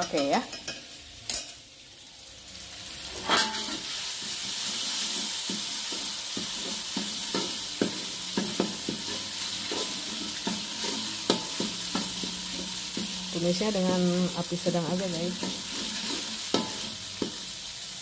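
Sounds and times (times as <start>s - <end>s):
spice paste sizzling in oil: 0.0s - 18.0s
metal spatula scraping a wok: 3.0s - 17.8s.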